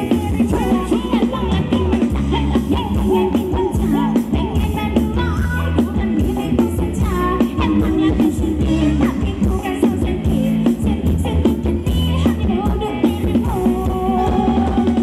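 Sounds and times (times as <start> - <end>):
live band playing dance music: 0.0 - 15.0
person singing: 0.0 - 15.0.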